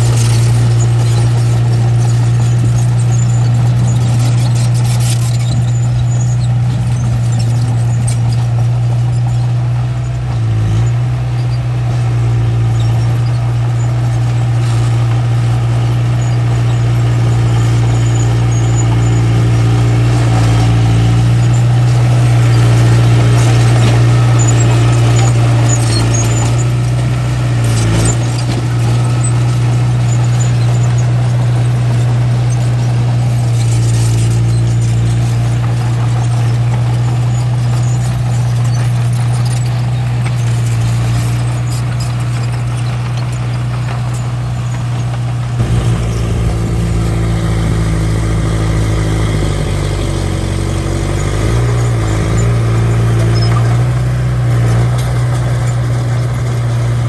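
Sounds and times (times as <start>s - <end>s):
faint high squeaks of tracks: 0.0s - 56.9s
bulldozer diesel engine running: 0.0s - 57.0s.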